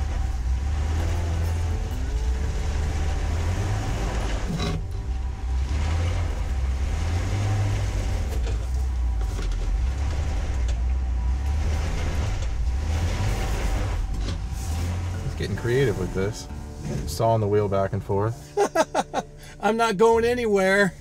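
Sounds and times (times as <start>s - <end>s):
tires spinning on rock: 0.0s - 17.5s
engine running under load: 0.0s - 19.6s.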